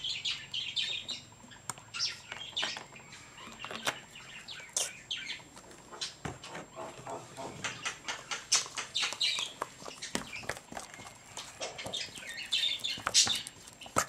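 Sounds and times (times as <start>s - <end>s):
small birds chirping: 0.0s - 14.0s
plastic cups and bottle clicking: 1.6s - 14.0s.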